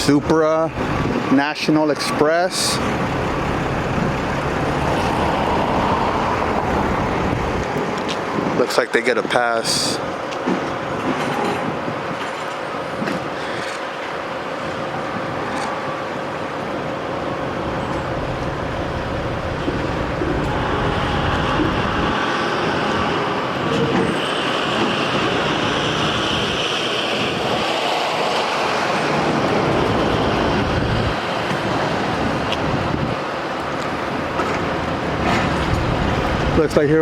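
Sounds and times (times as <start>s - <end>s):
semi truck engine and road noise: 0.0s - 37.0s.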